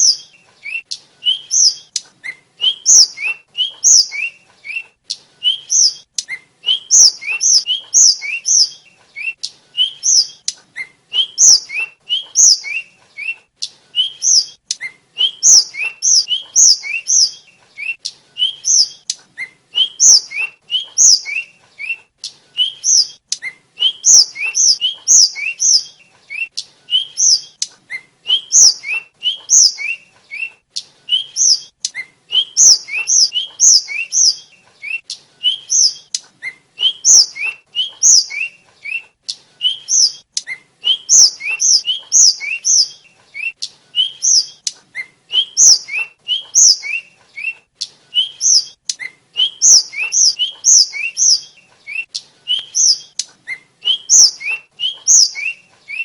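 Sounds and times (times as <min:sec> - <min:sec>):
flycatcher whistled song: 0:00.0 - 0:56.0.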